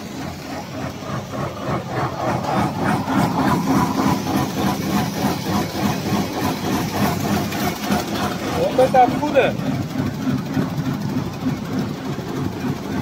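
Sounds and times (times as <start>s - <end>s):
machinery pulsing steadily: 0.0s - 13.0s.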